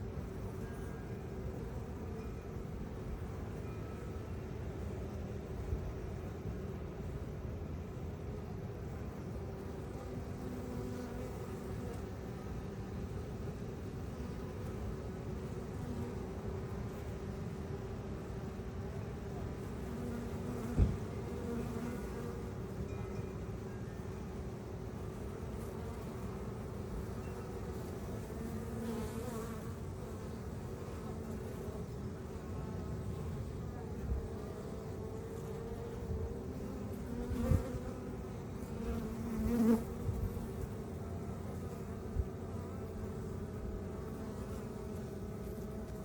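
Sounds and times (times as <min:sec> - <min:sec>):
honeybees buzzing: 0:08.2 - 0:46.0.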